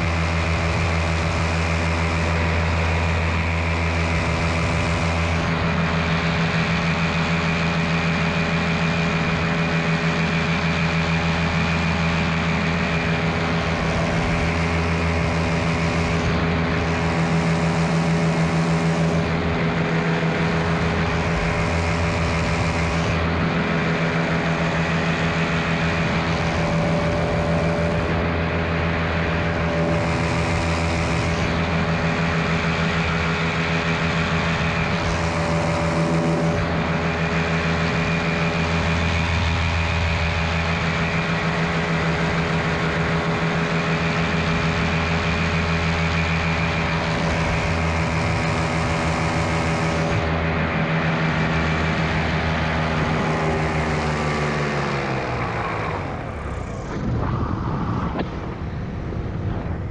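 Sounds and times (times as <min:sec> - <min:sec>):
two-stroke engine running: 0:00.0 - 0:59.9.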